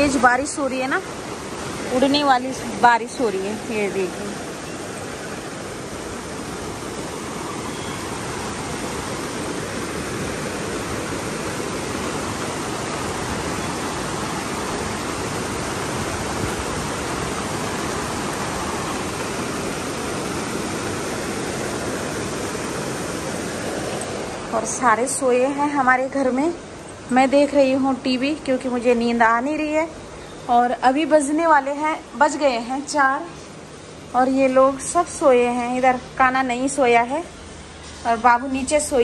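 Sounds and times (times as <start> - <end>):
heavy rain pouring: 0.0 - 39.0.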